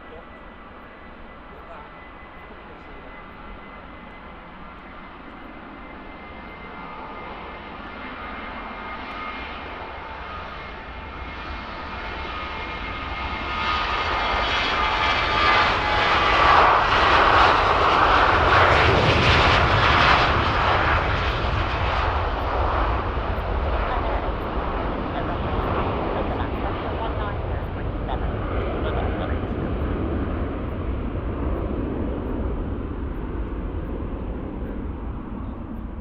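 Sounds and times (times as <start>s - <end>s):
jet engines roaring: 0.0s - 36.0s.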